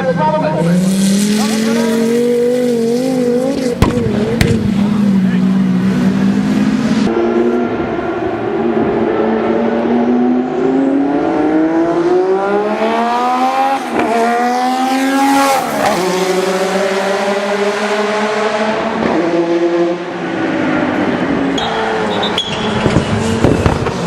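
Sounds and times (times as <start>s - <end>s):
race car engine accelerating: 0.4s - 24.0s.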